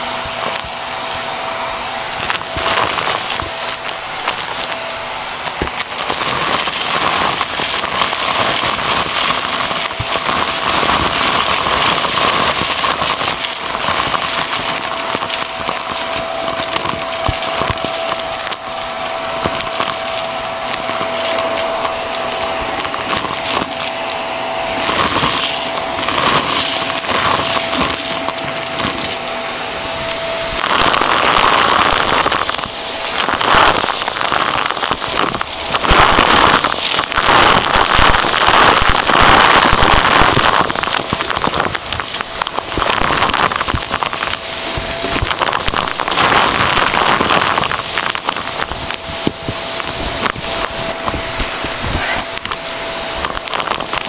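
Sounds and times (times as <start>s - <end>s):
vacuum motor whine: 0.0s - 54.0s
debris rattling up vacuum tube: 2.0s - 54.0s.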